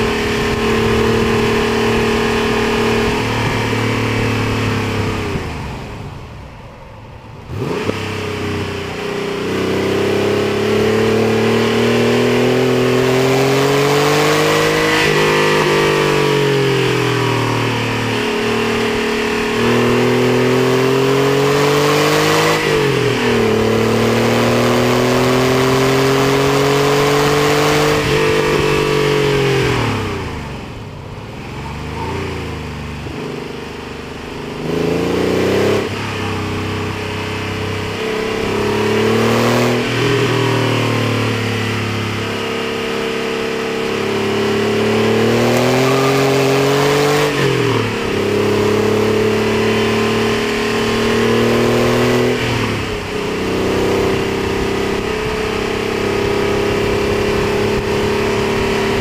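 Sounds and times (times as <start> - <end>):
car engine revving at full throttle: 0.0 - 59.0.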